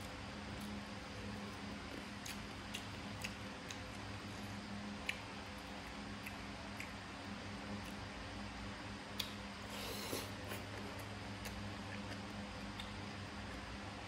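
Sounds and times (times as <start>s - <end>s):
steady low hum: 0.0s - 14.0s
person chewing wet smacks: 0.5s - 7.0s, 7.7s - 8.1s, 9.1s - 13.7s.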